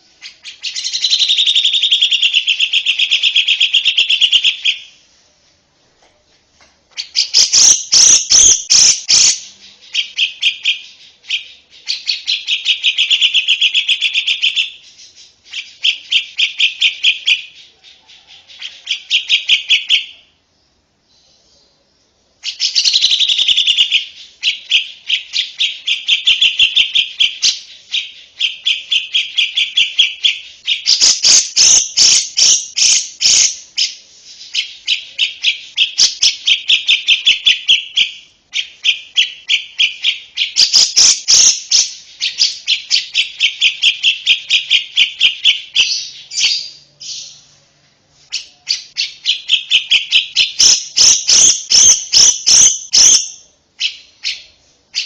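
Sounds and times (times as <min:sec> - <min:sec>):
lovebird chattering trills: 0:00.2 - 0:05.0, 0:07.0 - 0:20.1, 0:22.4 - 0:47.4, 0:48.3 - 0:55.0.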